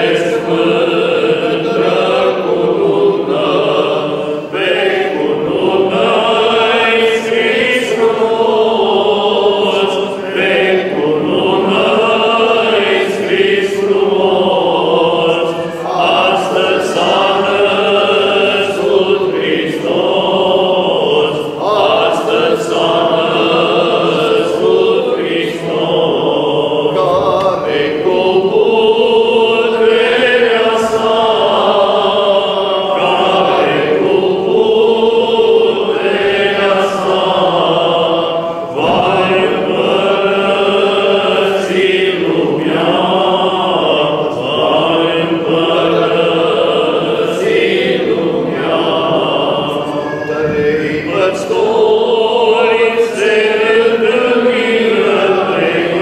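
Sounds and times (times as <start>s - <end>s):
amplified singing voice: 0.0s - 56.0s
men singing a chant: 0.0s - 56.0s.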